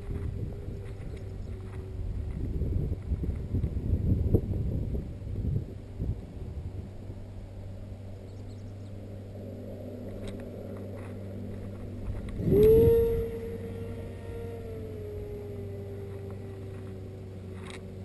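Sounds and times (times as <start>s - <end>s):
electric motor whine rising in pitch: 0.0s - 18.0s
steady low hum: 0.0s - 18.0s.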